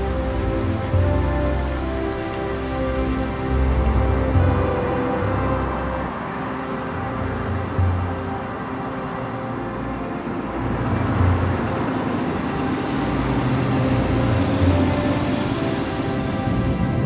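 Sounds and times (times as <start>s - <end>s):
dark ambient music: 0.0s - 17.0s.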